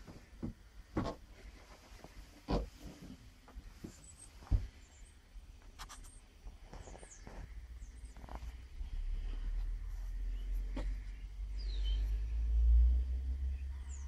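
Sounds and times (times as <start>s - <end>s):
soft rustles: 0.0s - 12.6s.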